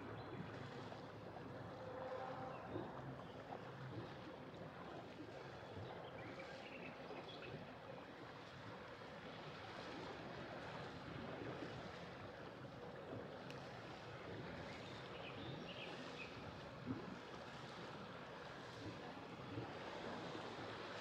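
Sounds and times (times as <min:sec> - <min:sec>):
faint engine hum: 0:00.0 - 0:21.0
water washing along hull: 0:00.0 - 0:21.0.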